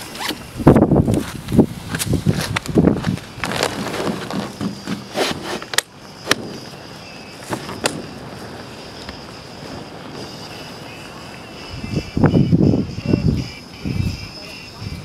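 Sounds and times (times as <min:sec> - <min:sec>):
sail cloth rustling: 0:00.0 - 0:12.2.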